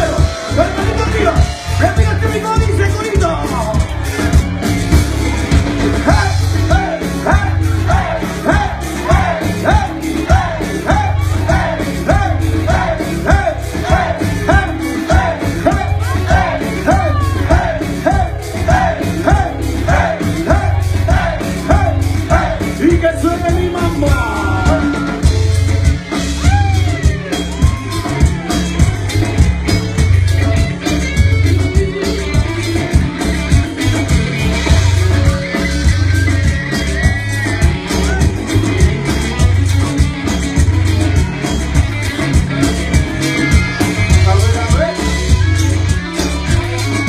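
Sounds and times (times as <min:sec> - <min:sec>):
live rock band with singing: 0:00.0 - 0:47.0.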